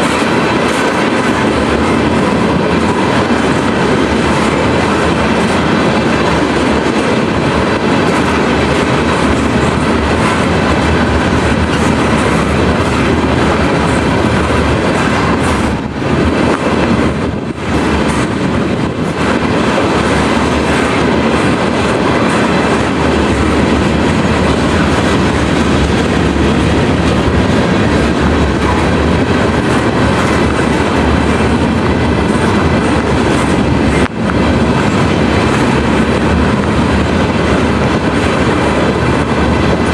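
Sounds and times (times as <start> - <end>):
train rumbling past: 0.0 - 39.9
wheels clattering on rails: 0.0 - 39.9.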